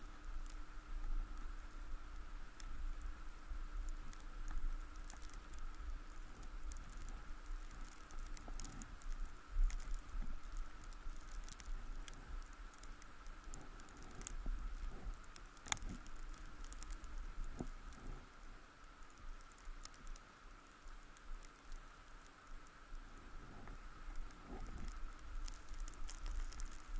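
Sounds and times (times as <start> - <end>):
wind rumble on microphone: 0.0 - 18.4, 23.0 - 26.9
light ticks and patter: 0.0 - 26.9.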